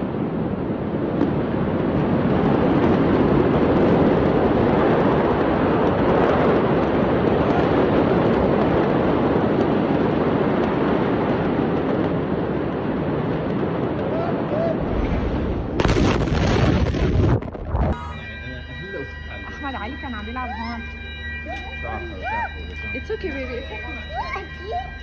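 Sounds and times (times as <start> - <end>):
loud steady rushing noise: 0.0 - 25.0.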